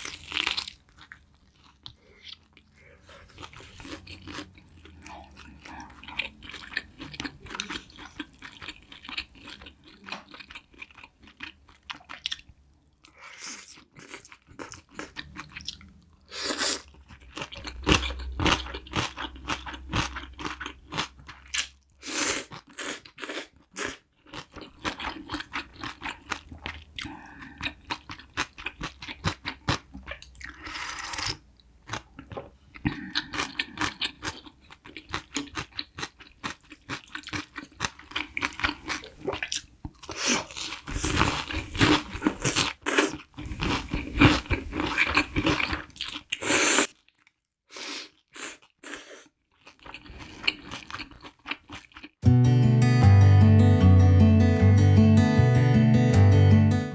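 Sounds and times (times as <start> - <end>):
person chewing crunchy food: 0.0 - 52.2.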